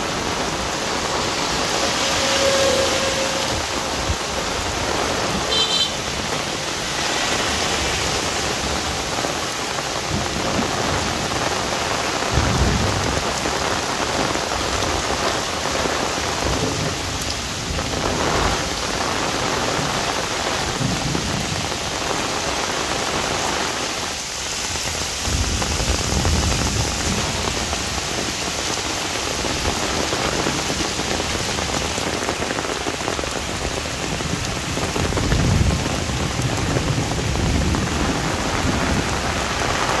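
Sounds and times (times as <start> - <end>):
heavy rain on umbrella: 0.0 - 40.0.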